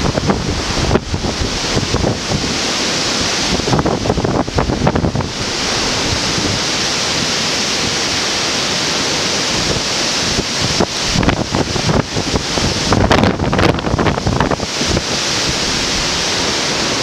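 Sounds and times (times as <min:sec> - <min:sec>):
strong wind rushing: 0:00.0 - 0:17.0
wind buffeting microphone: 0:00.0 - 0:17.0.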